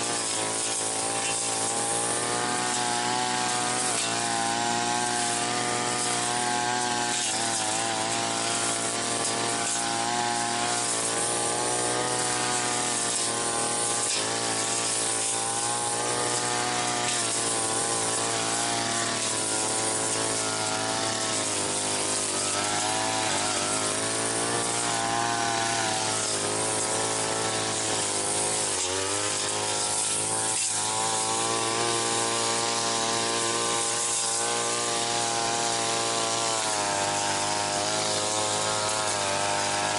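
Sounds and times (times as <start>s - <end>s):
brush cutter engine under load: 0.0s - 39.9s.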